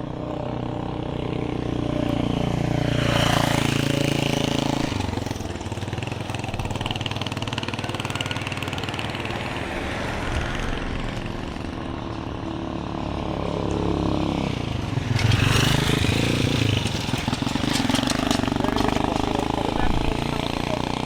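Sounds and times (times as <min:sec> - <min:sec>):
street traffic noise: 0:00.0 - 0:21.0
vehicle engine running close by: 0:00.0 - 0:21.0.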